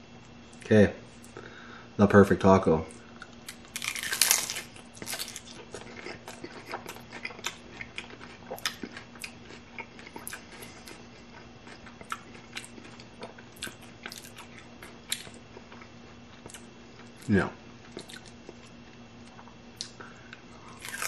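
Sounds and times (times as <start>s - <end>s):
chewing crunchy taco shell: 2.9s - 21.0s.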